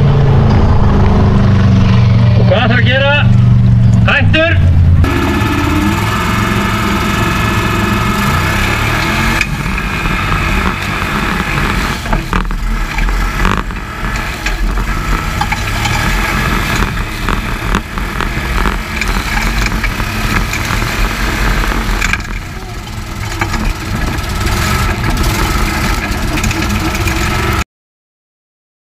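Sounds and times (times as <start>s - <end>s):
buggy engine at high revs: 0.0s - 27.6s.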